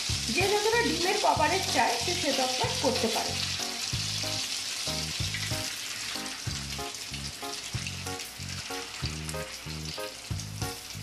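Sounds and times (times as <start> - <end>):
background music with steady beat: 0.0 - 1.9, 3.6 - 11.0
batter sizzling in hot oil: 0.0 - 11.0.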